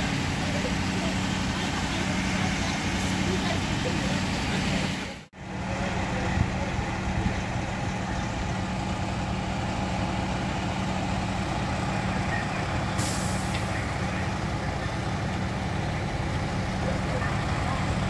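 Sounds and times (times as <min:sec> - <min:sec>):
fire trucks idling: 0:00.0 - 0:18.0.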